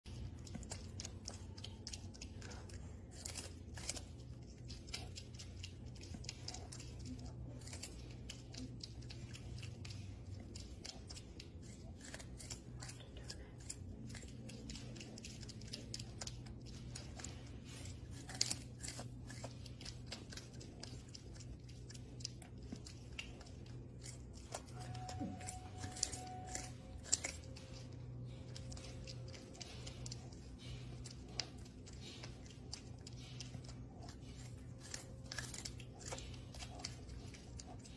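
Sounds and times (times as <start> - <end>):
porcupine gnawing corn: 0.0 - 37.9.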